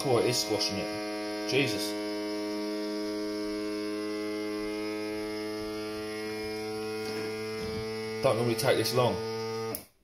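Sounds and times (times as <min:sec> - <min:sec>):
vacuum sealer pump humming: 0:00.0 - 0:10.0.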